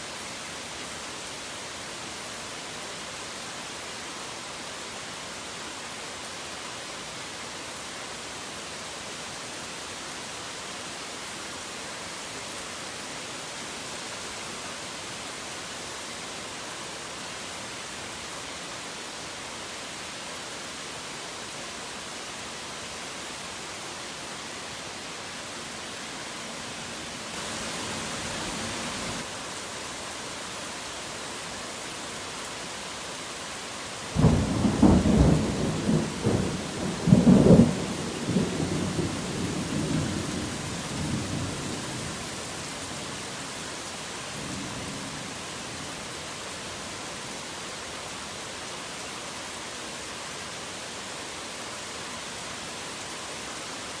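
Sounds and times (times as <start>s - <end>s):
heavy rain hiss: 0.0s - 54.0s.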